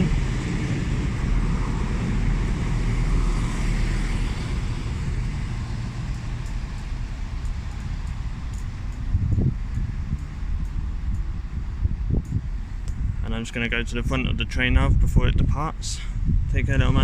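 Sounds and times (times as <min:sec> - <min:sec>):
diesel train engine rumble: 0:00.0 - 0:17.0.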